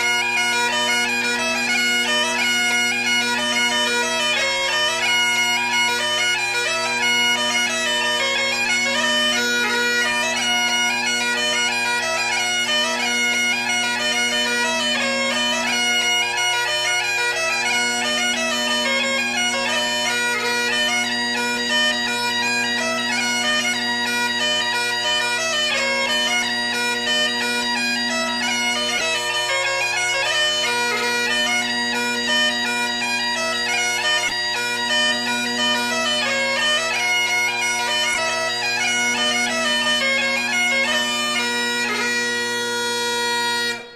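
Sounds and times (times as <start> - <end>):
bagpipe music: 0.0 - 43.9.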